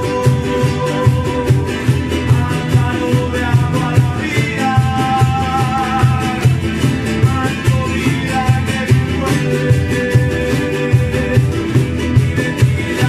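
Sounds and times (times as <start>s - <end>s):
cajon drum beat: 0.0s - 13.0s
strummed guitars: 0.0s - 13.0s.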